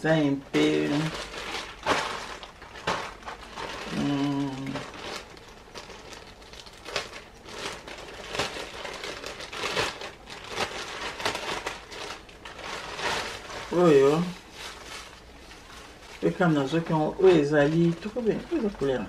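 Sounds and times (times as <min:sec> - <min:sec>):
plastic bag crinkling: 0:00.2 - 0:19.0.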